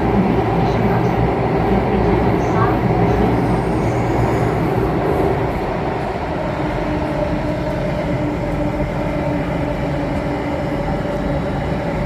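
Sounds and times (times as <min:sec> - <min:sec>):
rumble of moving train: 0:00.0 - 0:12.0.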